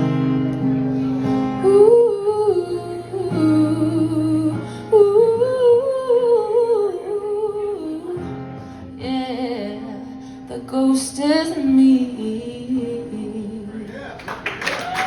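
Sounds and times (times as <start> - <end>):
acoustic guitar chords: 0.0 - 14.2.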